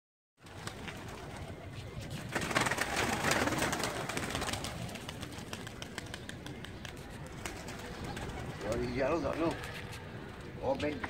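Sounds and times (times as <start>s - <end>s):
pigeons cooing: 1.0s - 10.0s.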